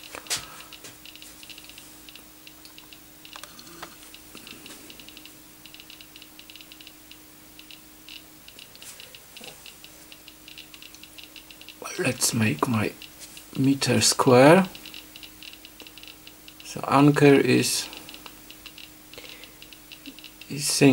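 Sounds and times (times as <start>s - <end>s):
faint steady hum: 0.0s - 20.9s
geiger counter clicking: 0.0s - 20.9s.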